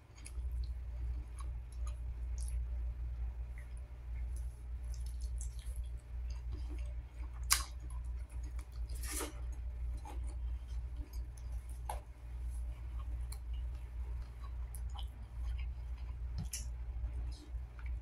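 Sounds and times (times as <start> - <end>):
chewing food: 0.0 - 18.0
low steady hum: 0.0 - 18.0.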